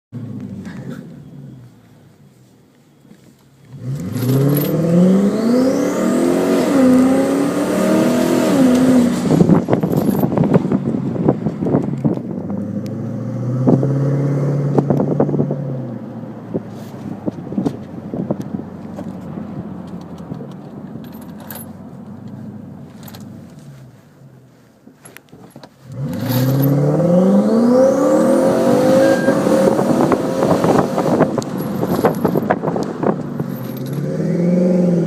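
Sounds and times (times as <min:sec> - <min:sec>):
car engine starting and revving: 0:00.2 - 0:01.7, 0:03.7 - 0:24.0, 0:25.8 - 0:35.0.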